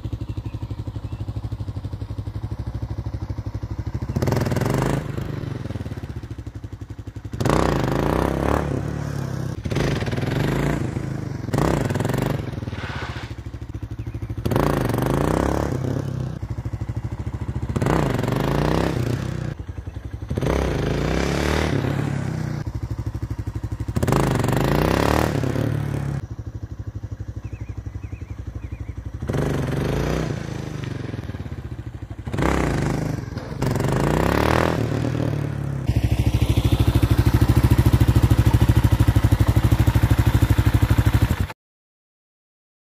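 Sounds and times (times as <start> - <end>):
motorcycle engine idling: 0.0 - 21.2, 22.1 - 41.5
motorcycle engine revving: 0.0 - 41.6.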